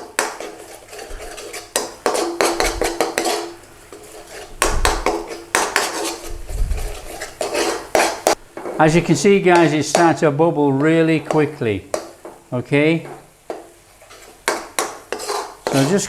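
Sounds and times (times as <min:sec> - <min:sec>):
metal utensil scraping pan: 0:00.0 - 0:10.2, 0:13.0 - 0:16.0.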